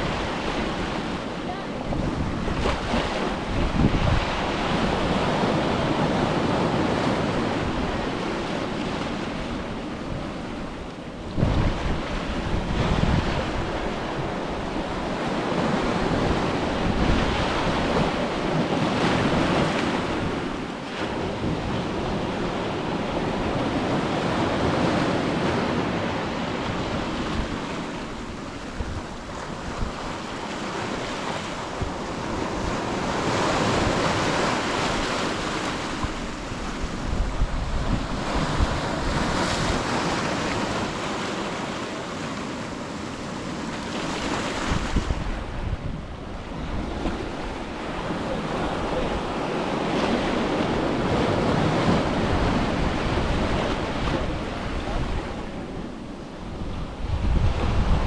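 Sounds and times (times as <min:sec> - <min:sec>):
wind buffeting microphone: 0:00.0 - 0:41.1, 0:43.0 - 0:58.0
ocean surf breaking on beach: 0:00.0 - 0:58.0.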